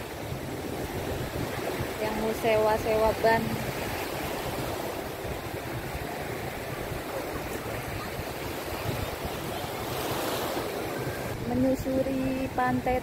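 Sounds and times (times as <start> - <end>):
gentle waves on sandy beach: 0.0 - 13.0.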